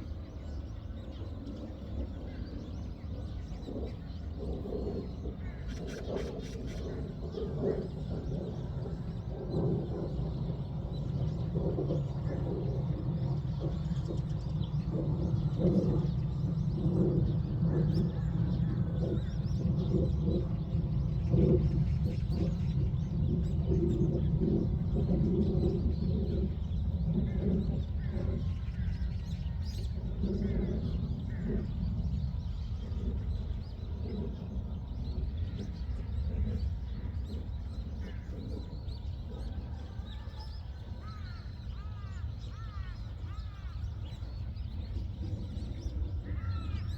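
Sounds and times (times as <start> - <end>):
birds chirping: 0.0 - 46.9
birds cooing: 0.0 - 46.9
steady low rumble: 0.0 - 46.9.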